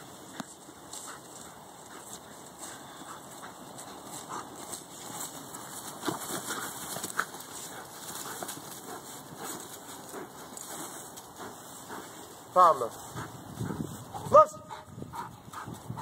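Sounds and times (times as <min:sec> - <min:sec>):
feet trampling on dry leaves: 0:00.0 - 0:14.3.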